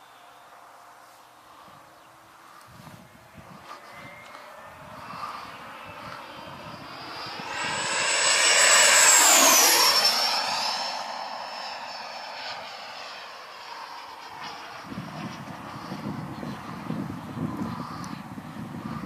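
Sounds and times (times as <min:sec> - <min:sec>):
model jet fan whine fly-by: 0:00.0 - 0:19.0.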